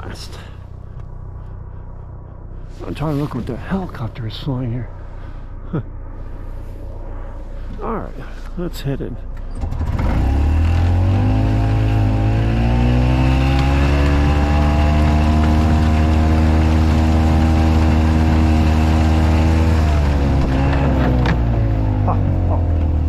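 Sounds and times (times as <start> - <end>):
golf cart engine: 0.0 - 23.0.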